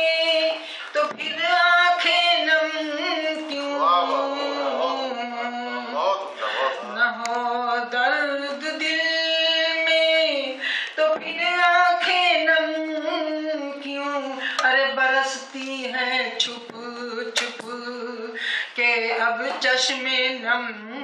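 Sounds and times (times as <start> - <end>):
woman singing into microphone: 0.0 - 21.0.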